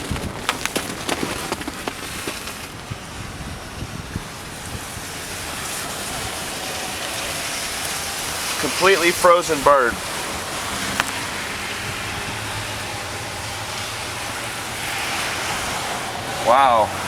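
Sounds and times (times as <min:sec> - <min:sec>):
wind blowing over microphone: 0:00.0 - 0:17.0.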